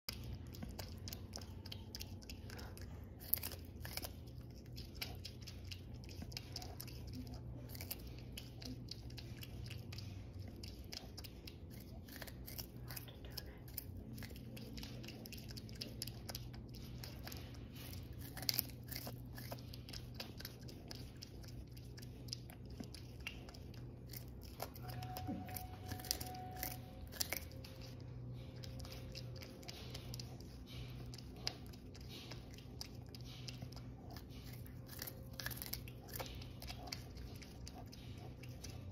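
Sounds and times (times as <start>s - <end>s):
porcupine gnawing corn: 0.1s - 38.9s
steady low hum: 0.1s - 38.9s.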